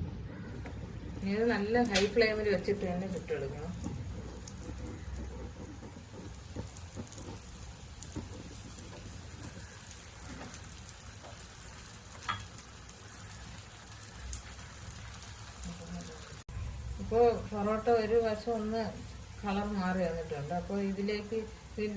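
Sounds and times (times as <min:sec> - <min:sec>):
flatbread sizzling in oil: 0:00.4 - 0:21.9.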